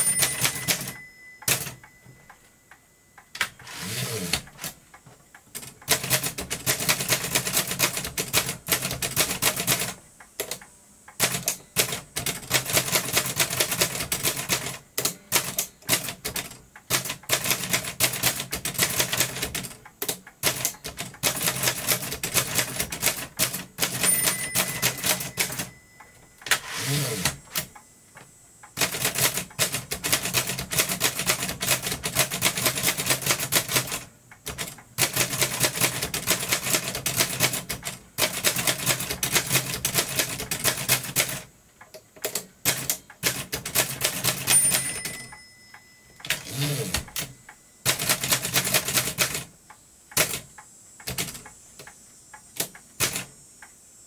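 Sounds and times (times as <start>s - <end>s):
typewriter keystroke clacks: 0.0s - 2.0s, 5.4s - 25.7s, 28.7s - 45.4s, 47.9s - 49.5s, 50.1s - 53.3s.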